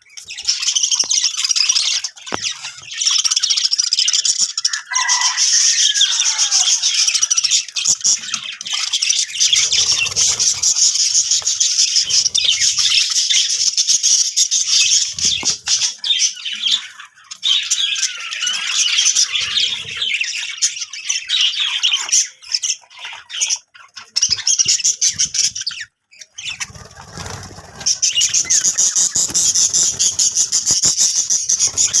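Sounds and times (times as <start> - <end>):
budgerigars chattering and warbling: 0.0 - 32.0.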